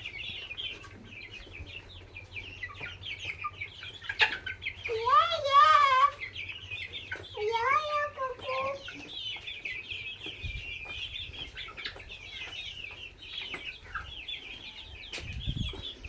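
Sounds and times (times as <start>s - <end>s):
chickens cheeping and clucking: 0.0s - 16.0s.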